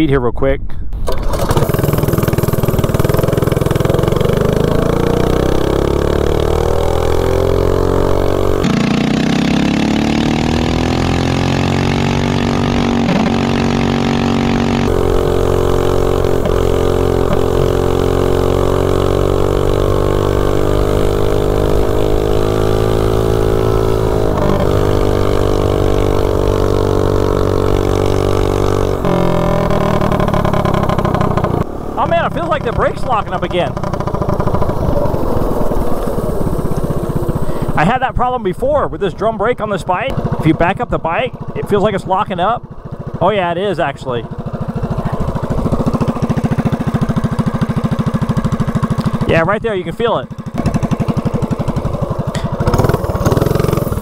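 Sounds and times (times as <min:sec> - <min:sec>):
minibike engine at full throttle: 0:01.0 - 0:54.0.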